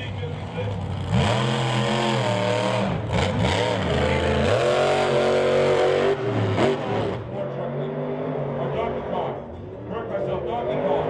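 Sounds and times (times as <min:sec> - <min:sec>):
monster truck engine revving: 0:00.0 - 0:09.9.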